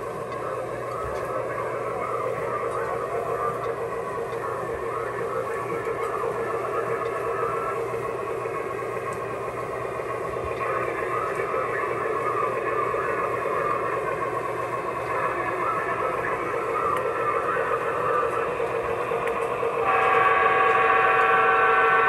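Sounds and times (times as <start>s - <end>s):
diesel engine rumble through speaker: 0.0s - 20.6s
model train running noise: 0.0s - 22.0s.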